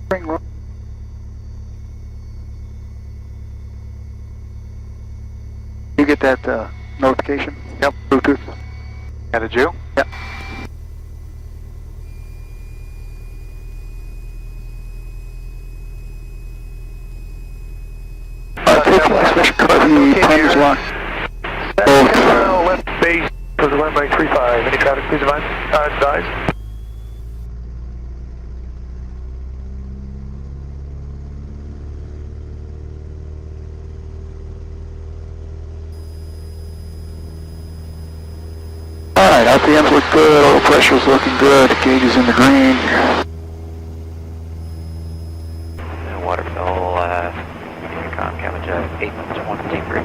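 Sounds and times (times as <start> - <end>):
piston aircraft engine drone: 0.0 - 50.0.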